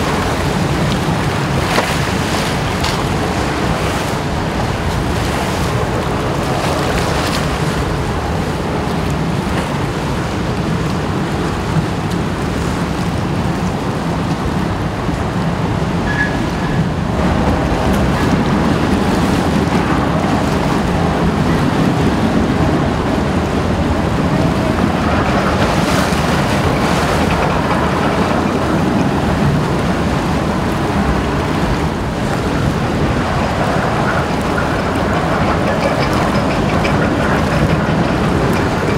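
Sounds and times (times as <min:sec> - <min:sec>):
ship engines and propellers churning: 0:00.0 - 0:38.9
waves: 0:00.0 - 0:38.9.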